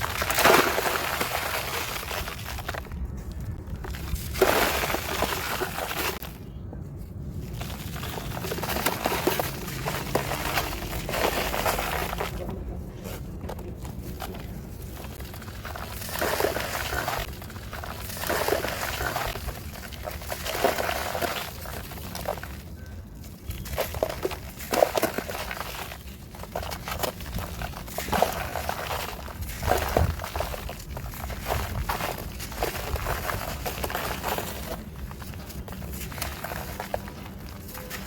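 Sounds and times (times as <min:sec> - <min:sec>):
dry material crumbling and crackling: 0:00.0 - 0:38.0.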